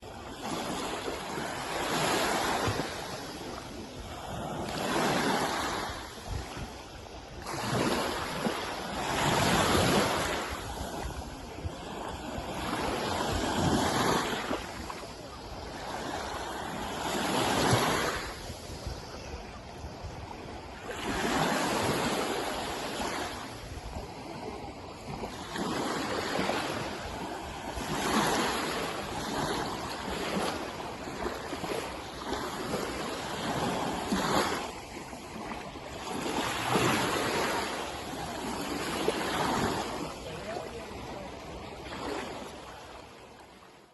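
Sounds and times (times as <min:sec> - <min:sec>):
wind on microphone: 0:00.0 - 0:42.4
sea waves washing in: 0:00.0 - 0:43.9.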